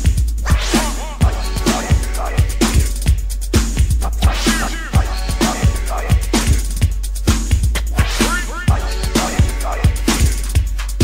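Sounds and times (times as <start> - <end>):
hip hop drum beat: 0.0 - 11.0.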